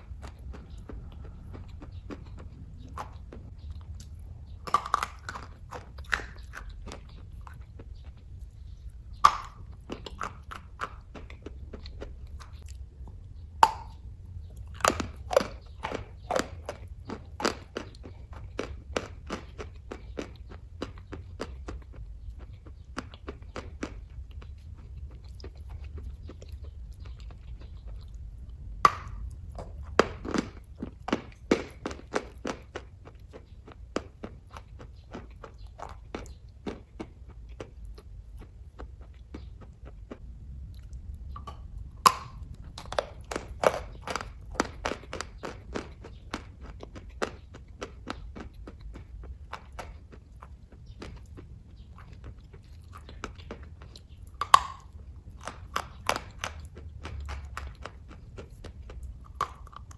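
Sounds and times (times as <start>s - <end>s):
chewing with wet mouth clicks: 0.0s - 59.9s
steady low hum: 0.0s - 59.9s.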